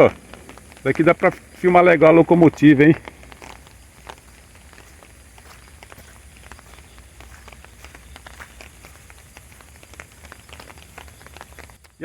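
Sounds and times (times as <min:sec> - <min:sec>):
faint hiss: 0:00.0 - 0:12.0
raindrops tapping: 0:00.0 - 0:12.0.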